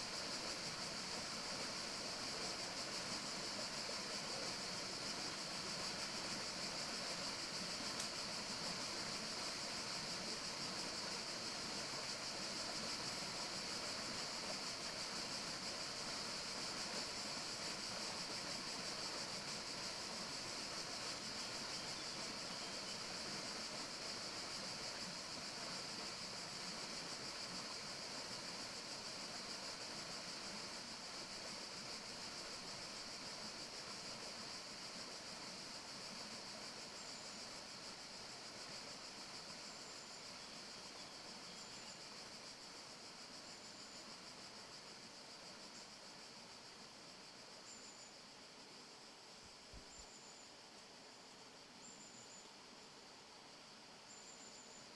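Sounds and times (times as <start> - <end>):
forest ambience hiss: 0.0 - 54.9.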